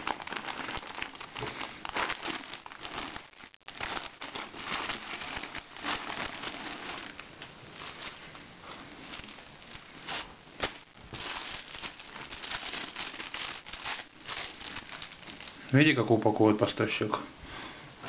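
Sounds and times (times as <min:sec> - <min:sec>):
plastic bag crinkling: 0:00.0 - 0:16.3.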